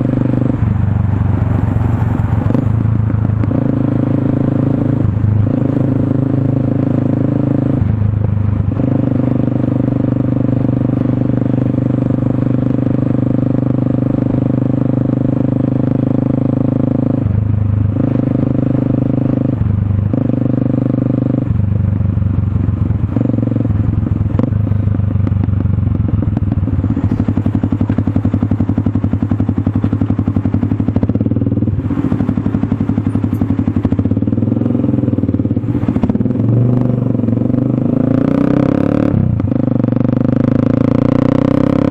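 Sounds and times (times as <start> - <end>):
motorcycle engine exhaust note: 0.0 - 41.9.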